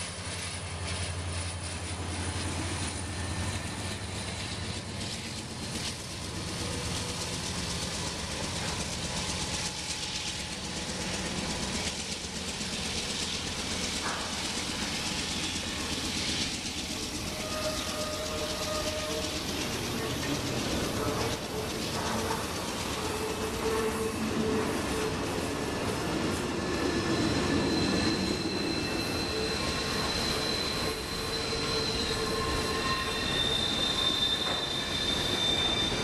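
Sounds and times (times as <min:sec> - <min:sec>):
diesel locomotive drone: 0:00.0 - 0:36.0.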